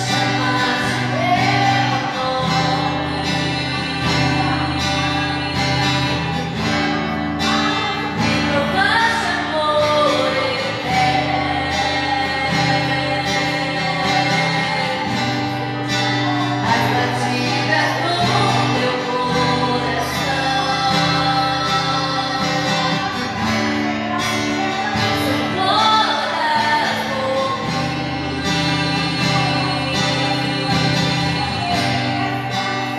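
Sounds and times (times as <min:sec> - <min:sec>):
guitar: 0:00.0 - 0:32.9
held bass notes: 0:00.0 - 0:32.9
person singing: 0:00.0 - 0:32.9.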